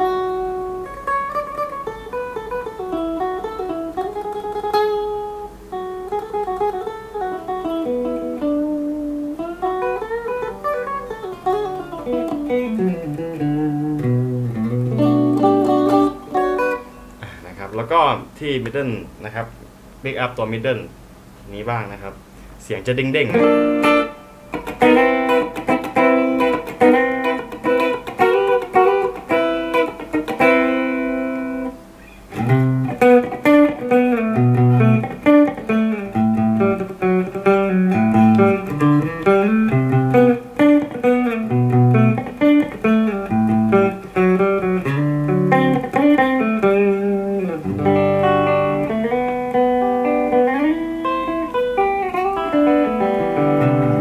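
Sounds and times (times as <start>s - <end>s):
clean electric guitar: 0.0s - 19.6s, 23.1s - 54.0s.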